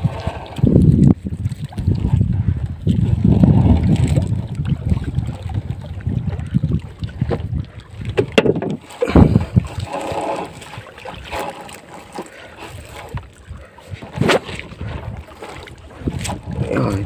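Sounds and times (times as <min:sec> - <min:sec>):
knocks and thumps on wooden boat: 0:00.0 - 0:13.3, 0:13.9 - 0:17.0
wind rumbling on microphone: 0:00.0 - 0:17.0.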